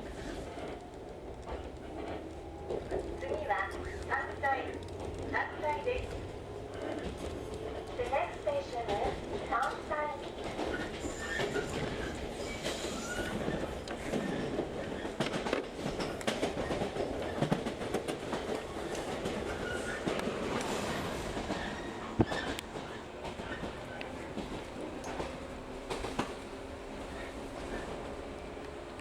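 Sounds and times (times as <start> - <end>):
train running noise: 0.0 - 29.0
wheels clicking over rail joints: 0.0 - 29.0.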